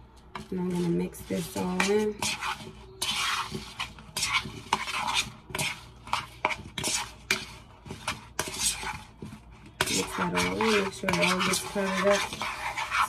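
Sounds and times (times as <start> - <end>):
metal spoon scraping in a bowl: 0.3 - 13.0.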